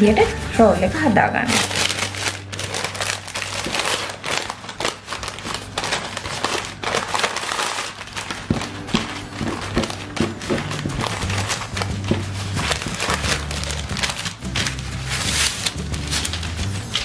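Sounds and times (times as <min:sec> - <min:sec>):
baking paper crinkling: 0:01.3 - 0:17.0.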